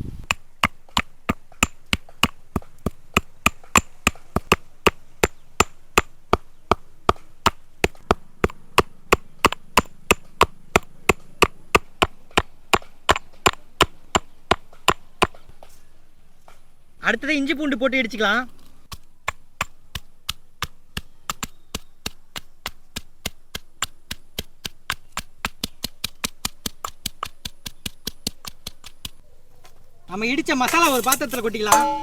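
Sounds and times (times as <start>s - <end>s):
pestle pounding seeds in mortar: 0.2s - 15.4s, 18.9s - 29.2s, 30.6s - 32.0s.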